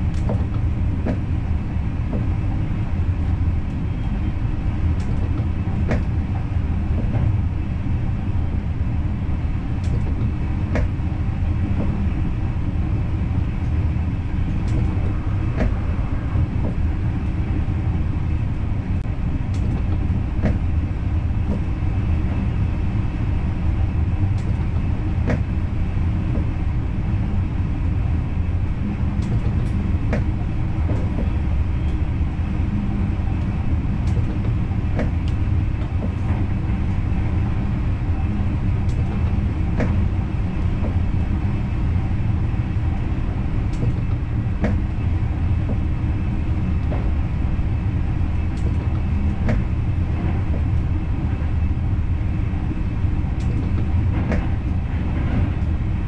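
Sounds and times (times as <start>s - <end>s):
train running low rumble: 0.0s - 56.0s.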